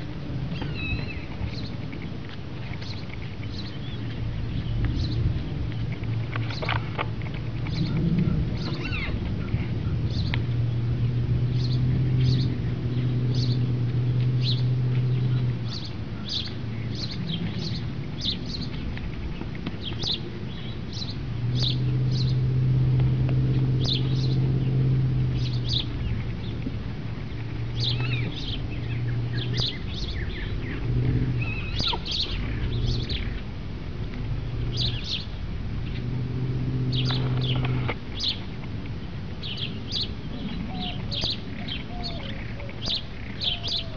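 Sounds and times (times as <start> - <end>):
low steady rumble: 0.0 - 43.9
small birds chirping: 0.0 - 43.9.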